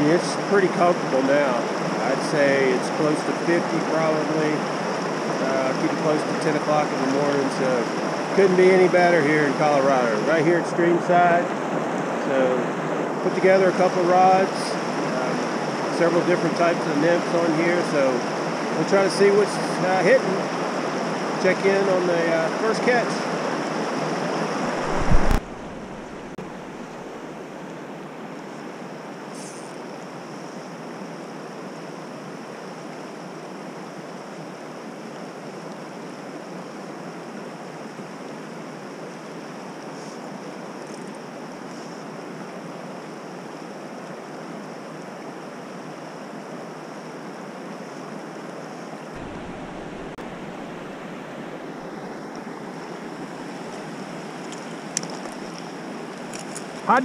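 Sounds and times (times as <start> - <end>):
river water rushing over rocks: 0.0 - 8.9, 11.0 - 29.0, 30.8 - 57.0.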